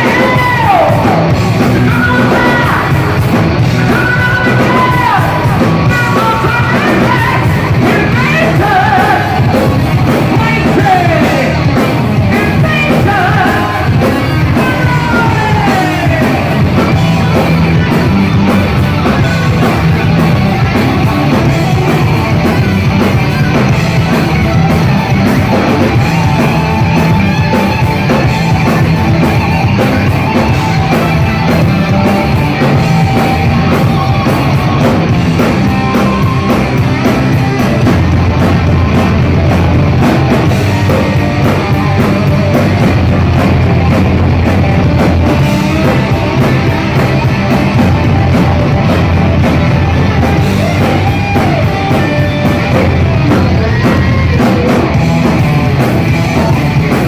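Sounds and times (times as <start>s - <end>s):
bass guitar: 0.0s - 57.0s
distorted electric guitars: 0.0s - 57.0s
pounding drum kit: 0.0s - 57.0s.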